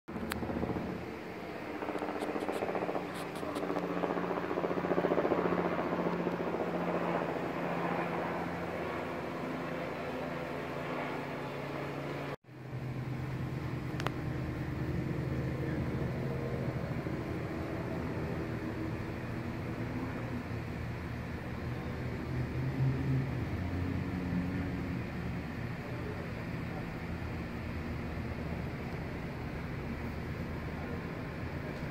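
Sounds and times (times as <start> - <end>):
helicopter drone: 0.1 - 31.9.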